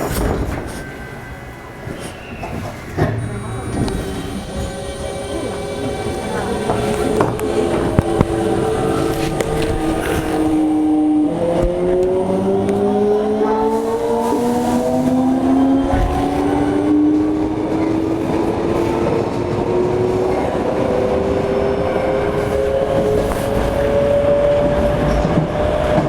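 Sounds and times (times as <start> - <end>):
wheels rumbling on track: 1.8 - 26.0.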